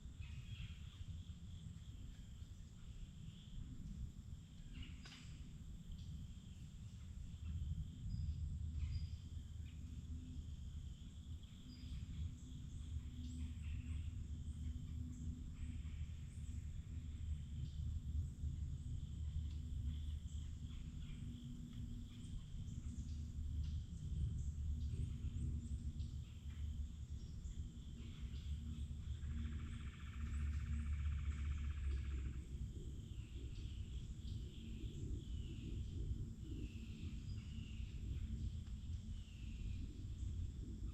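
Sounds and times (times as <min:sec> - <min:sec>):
high insect drone: 0:00.0 - 0:40.9
steady low rumble: 0:00.0 - 0:40.9.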